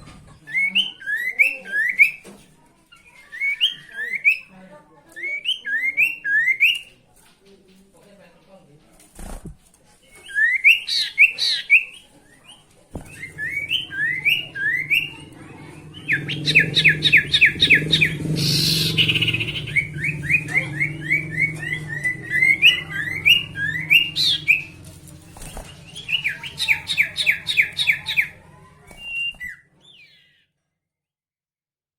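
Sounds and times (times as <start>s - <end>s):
songbird singing chirps: 0.0s - 8.0s, 10.0s - 30.6s.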